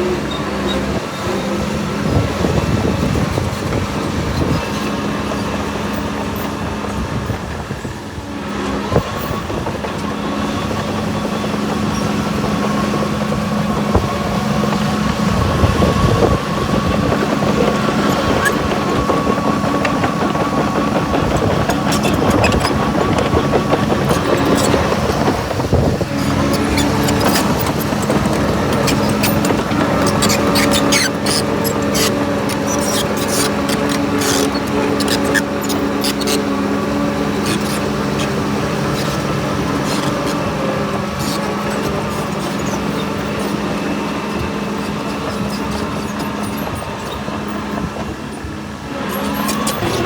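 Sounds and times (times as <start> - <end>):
diesel machine engine running: 0.0 - 50.0.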